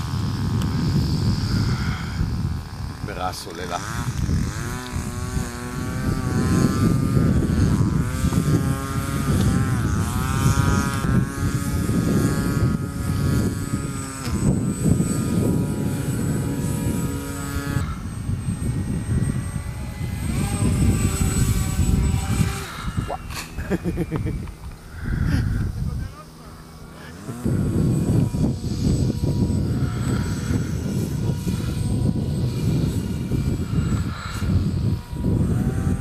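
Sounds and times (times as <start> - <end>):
electric motor and propeller whine: 0.0 - 36.0.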